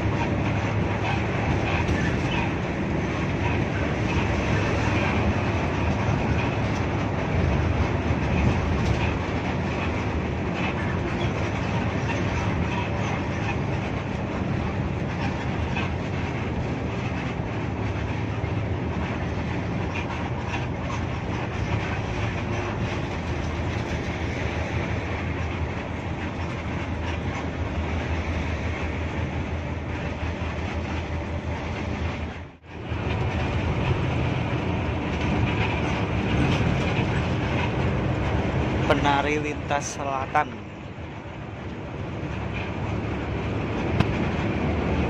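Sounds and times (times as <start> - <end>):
bus engine hum: 0.0 - 45.0
tyre and road rumble: 0.0 - 45.0.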